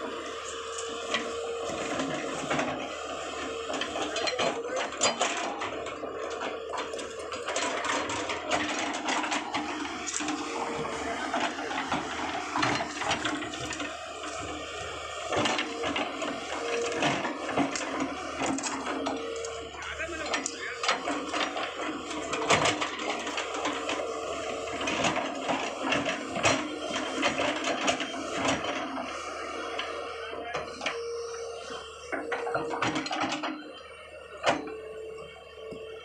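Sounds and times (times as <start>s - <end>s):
excavator engine and hydraulics whine: 0.0s - 36.0s.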